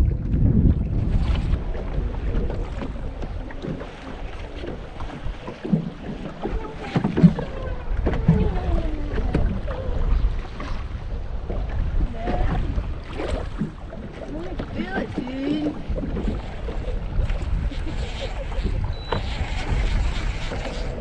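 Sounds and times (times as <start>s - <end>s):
waves lapping against boat hull: 0.0s - 21.0s
wind buffeting microphone: 0.0s - 21.0s.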